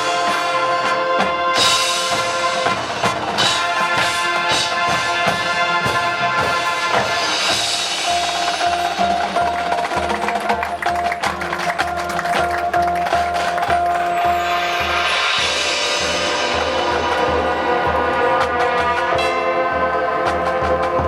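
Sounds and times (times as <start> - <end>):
drum line percussion: 0.0 - 21.0
wind instruments holding chords: 0.0 - 21.0.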